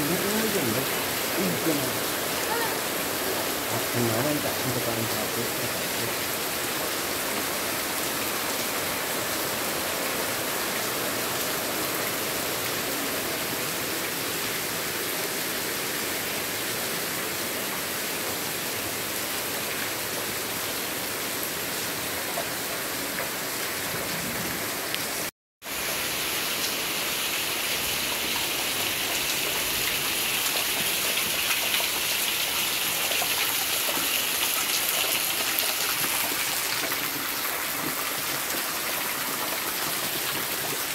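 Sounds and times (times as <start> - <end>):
heavy rain falling: 0.0 - 40.9
rainwater pouring off roof: 0.0 - 40.9.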